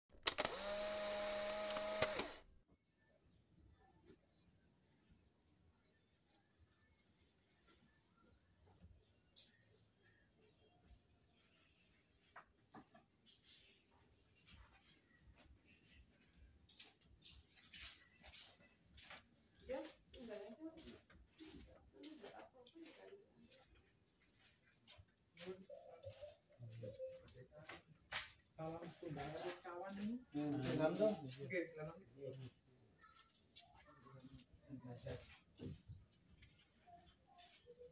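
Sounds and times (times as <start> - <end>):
insects chirring: 0.2 - 37.9.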